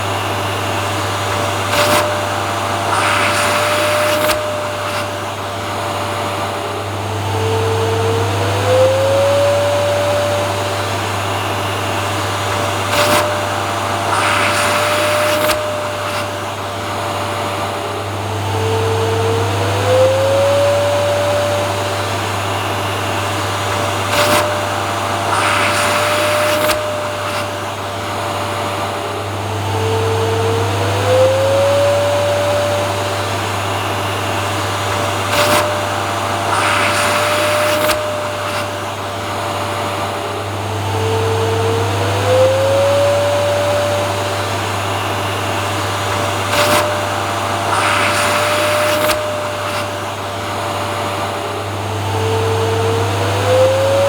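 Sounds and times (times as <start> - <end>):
vacuum cleaner motor: 0.0 - 54.0.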